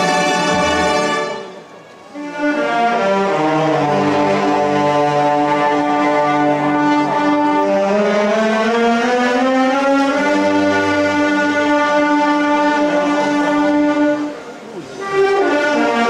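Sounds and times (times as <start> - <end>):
marching band playing funeral march: 0.0 - 16.0.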